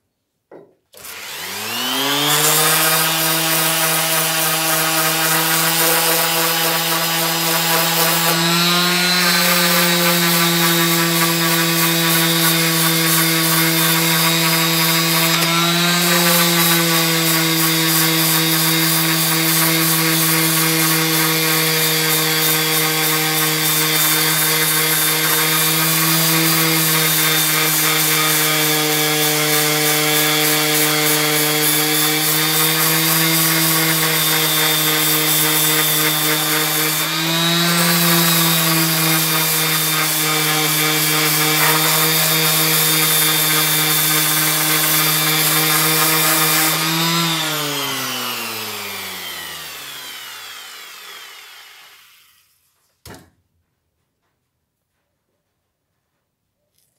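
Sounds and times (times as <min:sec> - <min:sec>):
orbital sander sanding wood: 0:01.0 - 0:52.6.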